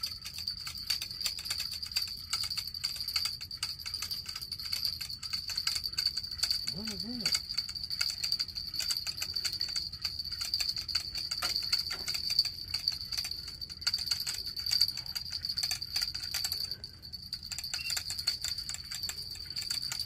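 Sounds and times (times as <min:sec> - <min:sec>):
light clicking and rattling: 0:00.0 - 0:20.0.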